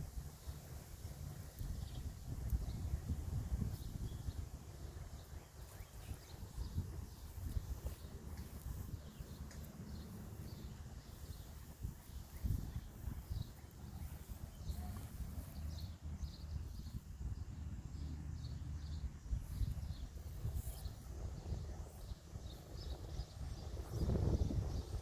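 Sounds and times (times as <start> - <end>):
small bird chirping: 1.6 - 25.0.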